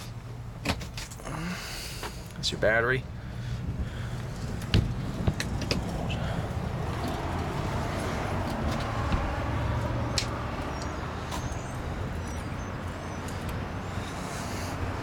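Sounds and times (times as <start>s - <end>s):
motor vehicle rumble: 0.0s - 15.0s.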